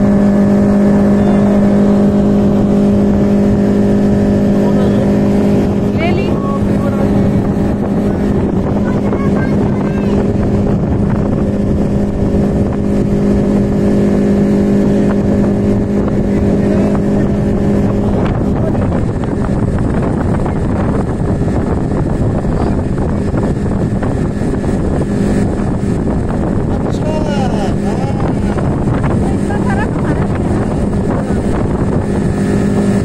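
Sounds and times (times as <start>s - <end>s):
speedboat engine humming: 0.0s - 33.0s
wind on microphone: 0.0s - 33.0s.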